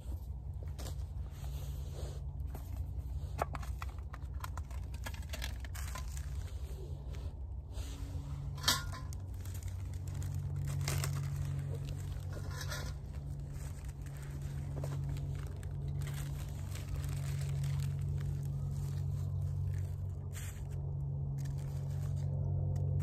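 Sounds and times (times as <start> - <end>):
gear rustling and crinkling: 0.0 - 23.0
steady low rumble: 0.0 - 23.0.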